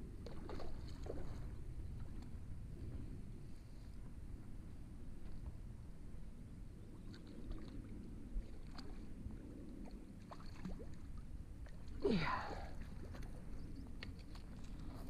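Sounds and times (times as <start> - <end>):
water splashing and sloshing: 0.0 - 4.2, 6.8 - 15.0
steady low rumble: 0.0 - 15.0.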